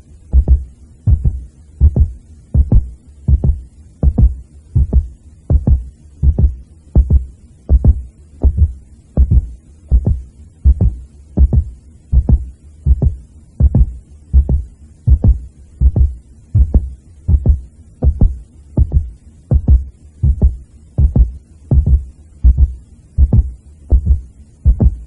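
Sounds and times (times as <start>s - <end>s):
heartbeat: 0.3s - 25.0s.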